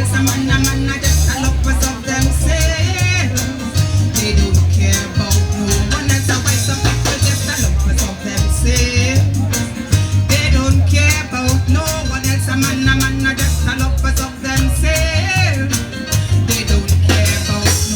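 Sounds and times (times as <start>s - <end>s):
deep pulsing bass line: 0.0s - 17.9s
percussion beat: 0.0s - 17.9s
person singing: 0.0s - 17.9s.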